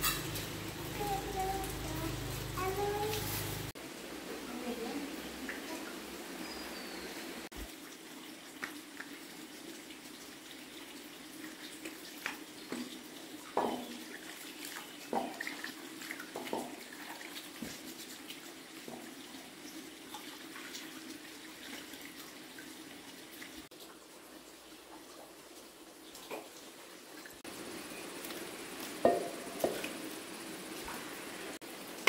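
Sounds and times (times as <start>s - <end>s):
stream running: 0.0s - 32.0s.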